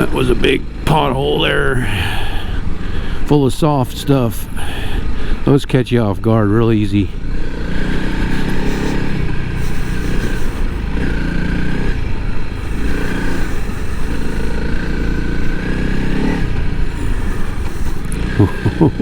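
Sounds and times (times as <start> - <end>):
motorcycle engine under load: 0.0 - 19.0.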